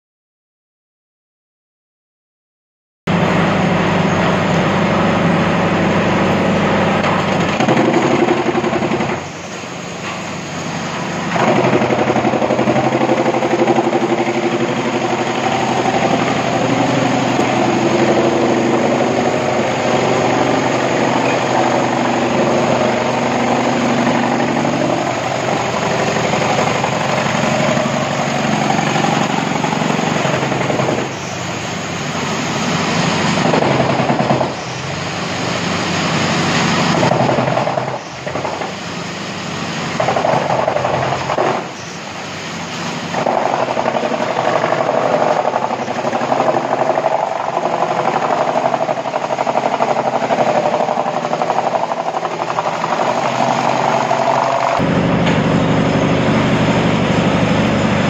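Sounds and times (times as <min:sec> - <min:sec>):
tractor engine under load: 0:03.1 - 0:58.0
wood chipper chipping logs: 0:03.1 - 0:58.0.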